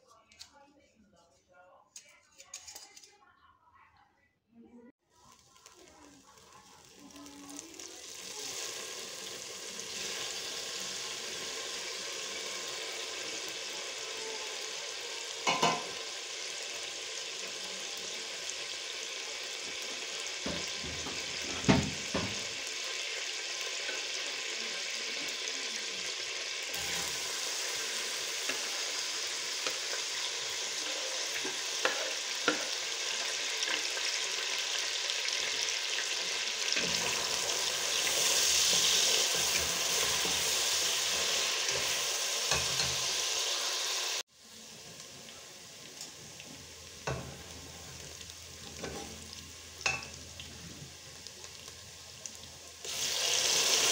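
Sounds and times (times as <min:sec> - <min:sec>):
hot oil sizzling in a pot: 0:05.0 - 0:53.9.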